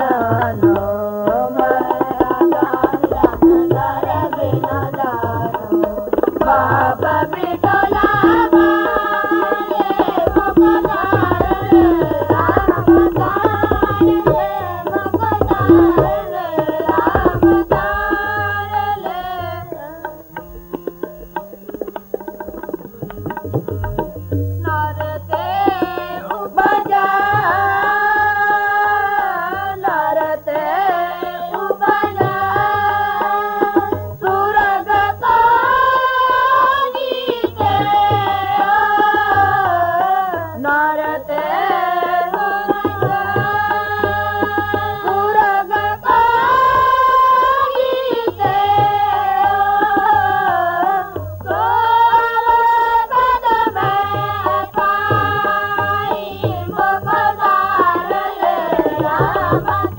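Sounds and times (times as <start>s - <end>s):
hymn singing: 0.0s - 59.9s
tabla playing: 0.0s - 59.9s.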